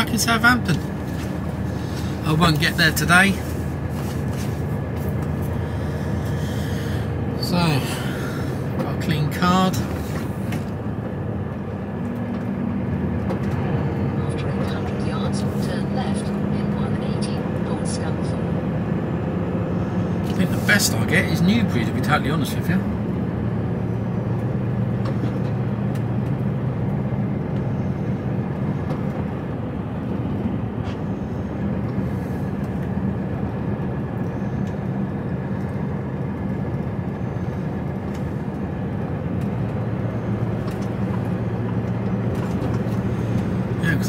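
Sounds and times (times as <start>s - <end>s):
truck diesel engine drone: 0.0s - 44.0s
tyre and road noise: 0.0s - 44.0s.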